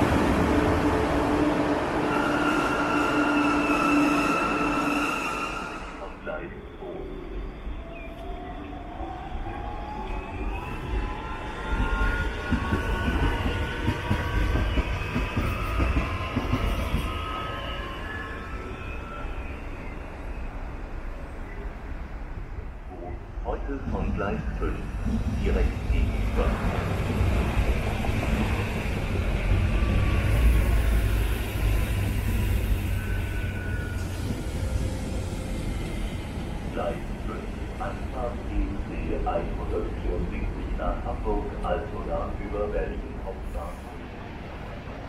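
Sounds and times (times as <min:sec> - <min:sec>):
high whining train tones: 0:00.0 - 0:45.0.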